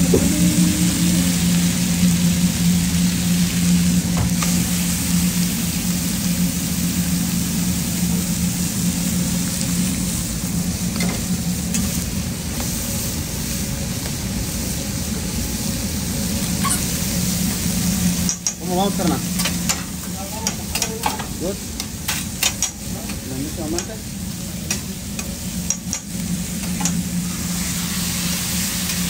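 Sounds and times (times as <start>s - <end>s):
constant low hum: 0.0s - 29.0s
food sizzling on griddle: 0.0s - 29.0s.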